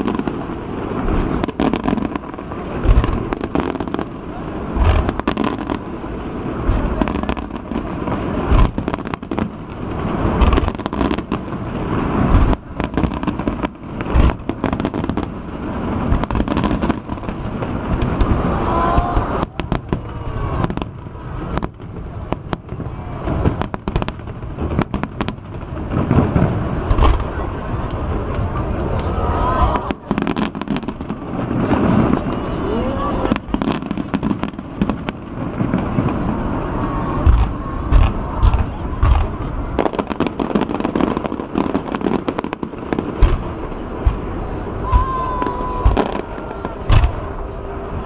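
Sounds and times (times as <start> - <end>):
firework booms: 0.0 - 48.0
fireworks crackling and popping: 0.0 - 48.0.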